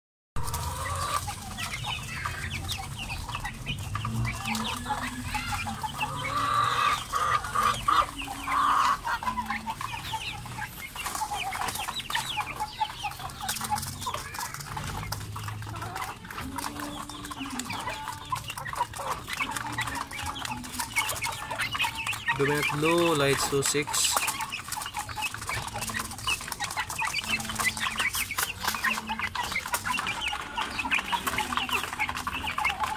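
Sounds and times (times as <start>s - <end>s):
chicks clucking and peeping: 0.4s - 32.9s.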